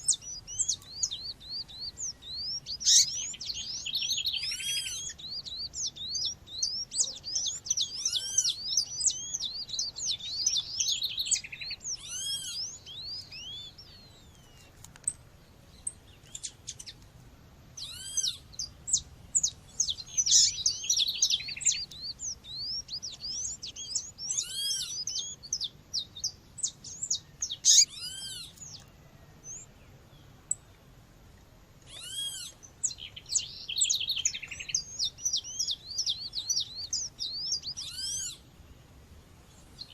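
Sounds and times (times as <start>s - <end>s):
bird high chirps: 0.0s - 17.0s, 17.8s - 29.7s, 31.8s - 38.5s.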